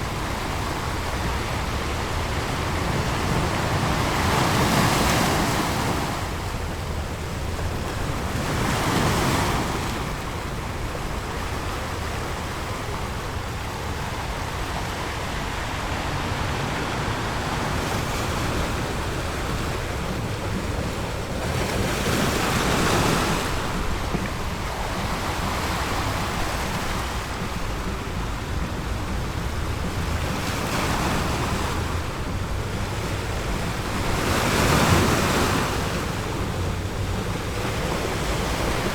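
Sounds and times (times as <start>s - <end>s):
low wind rumble: 0.0s - 38.9s
ocean surf waves breaking: 0.0s - 38.9s.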